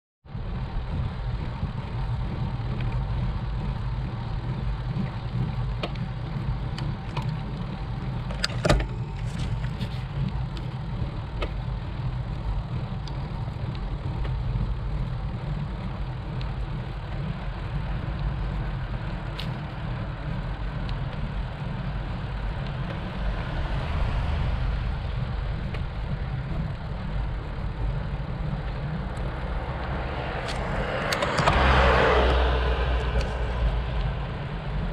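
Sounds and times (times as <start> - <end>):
wind and road rumble: 0.2 - 34.9.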